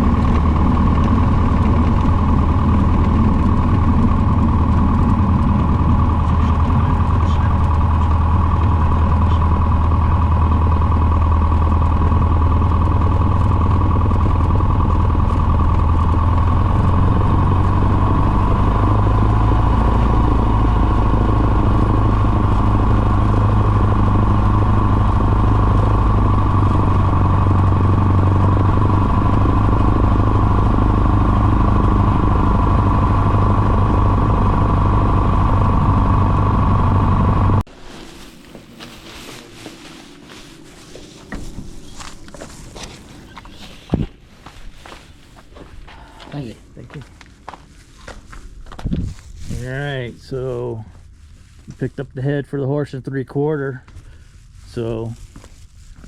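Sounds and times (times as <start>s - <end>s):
airplane engine drone in cabin: 0.0s - 48.6s.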